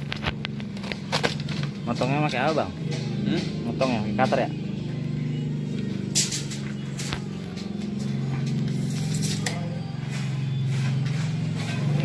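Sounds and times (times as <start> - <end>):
music with low sustained chords: 0.0 - 12.0.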